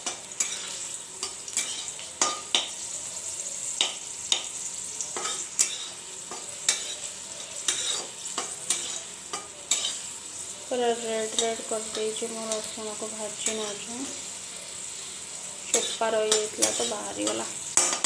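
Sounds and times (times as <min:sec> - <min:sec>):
garlic sizzling in oil: 0:00.0 - 0:18.0
spatula scraping pan: 0:00.0 - 0:18.0.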